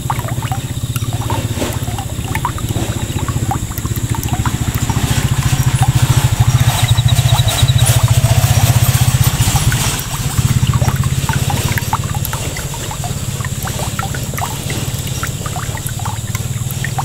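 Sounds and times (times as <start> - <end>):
light ticks: 0.0 - 17.0
low mechanical running sound: 0.0 - 17.0.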